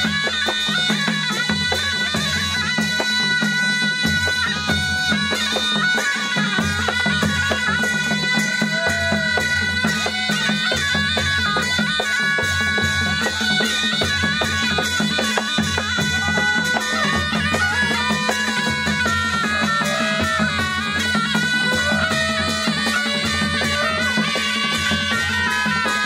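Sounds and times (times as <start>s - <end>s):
quick drum beats: 0.0s - 26.0s
shawm playing reedy melody: 0.0s - 26.0s.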